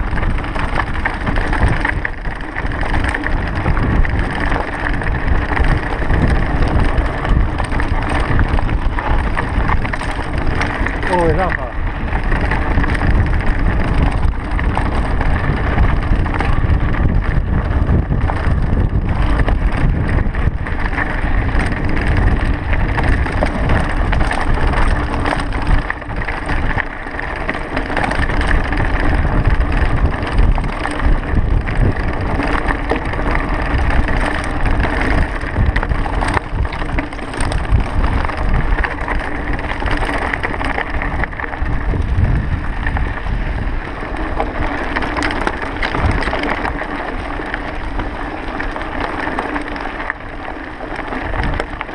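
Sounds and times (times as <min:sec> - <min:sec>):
bike rattling over stones: 0:00.0 - 0:51.9
tyres crunching on gravel: 0:00.0 - 0:51.9
wind buffeting microphone: 0:00.0 - 0:51.9.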